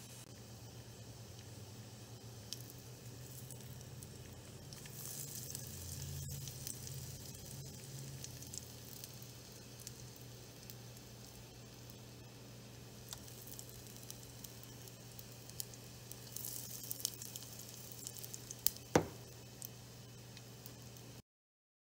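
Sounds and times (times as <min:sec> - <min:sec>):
spices sizzling in hot oil: 0:00.0 - 0:21.2.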